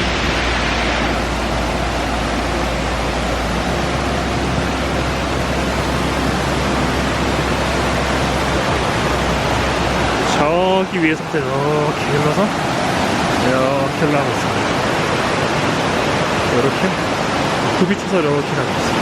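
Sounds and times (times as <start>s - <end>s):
stream rushing water: 0.0s - 19.0s.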